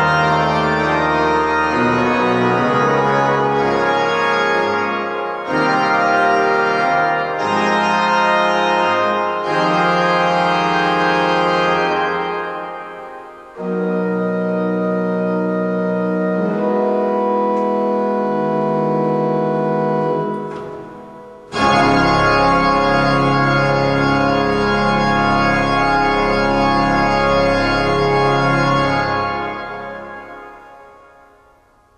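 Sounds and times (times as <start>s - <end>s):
pipe organ chords: 0.0s - 31.9s.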